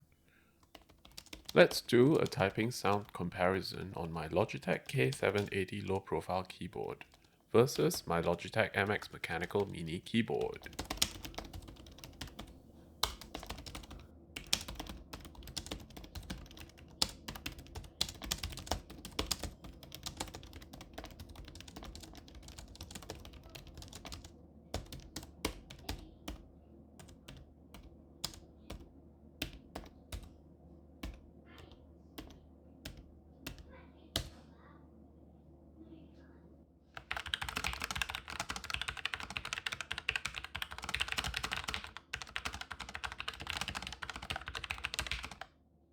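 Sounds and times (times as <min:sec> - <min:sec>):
computer keyboard typing: 0:00.6 - 0:06.0, 0:06.7 - 0:26.4, 0:27.0 - 0:30.3, 0:31.0 - 0:33.6, 0:37.0 - 0:45.5.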